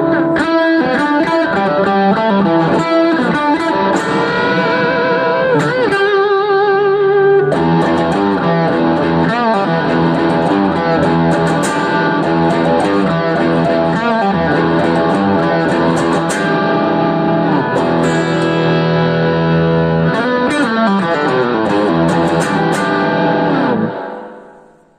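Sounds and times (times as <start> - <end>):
distorted electric guitar lead: 0.0 - 24.9.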